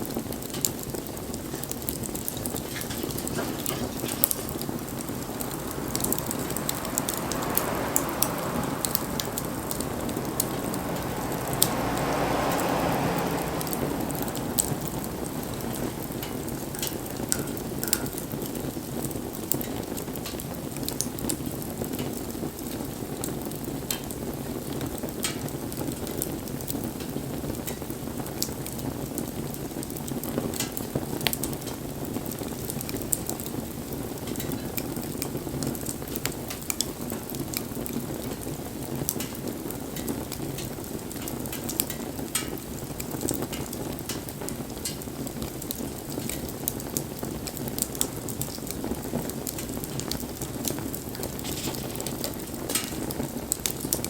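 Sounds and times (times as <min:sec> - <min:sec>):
bonfire flames rushing: 0:00.0 - 0:54.0
burning wood crackling and popping: 0:00.0 - 0:54.0.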